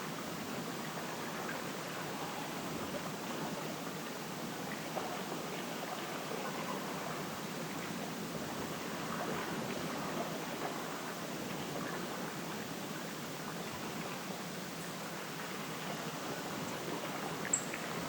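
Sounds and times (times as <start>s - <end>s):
rush of moving water: 0.0s - 18.0s.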